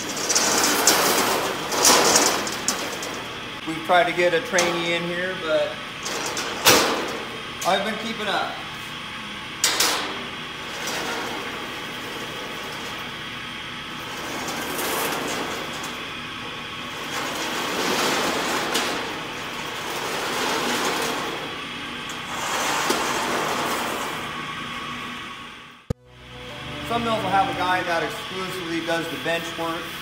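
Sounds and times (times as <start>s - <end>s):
shop machinery running: 0.0s - 30.0s.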